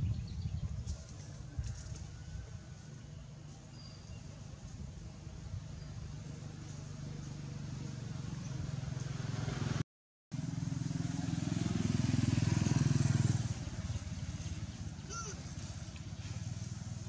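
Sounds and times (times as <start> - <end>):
vehicle engine humming: 1.0 - 17.0.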